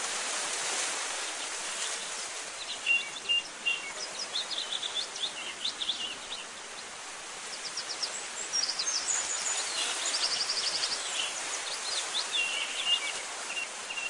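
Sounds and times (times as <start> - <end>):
steady background hiss: 0.0 - 14.0
small birds chirping: 1.2 - 14.0.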